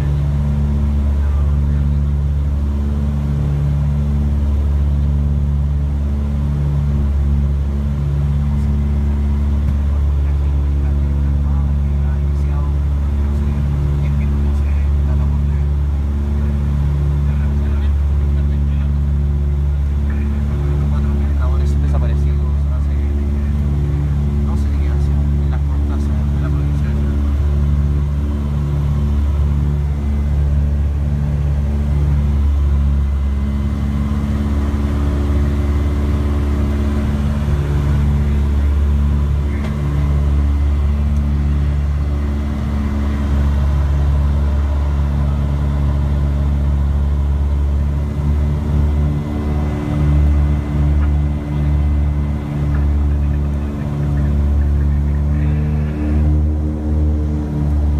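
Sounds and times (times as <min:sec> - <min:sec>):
aircraft engines droning: 0:00.0 - 0:57.9.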